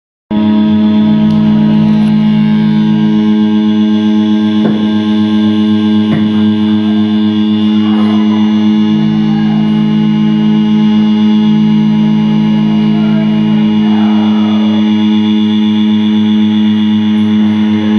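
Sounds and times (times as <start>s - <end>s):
distorted amplified drone: 0.3s - 17.9s.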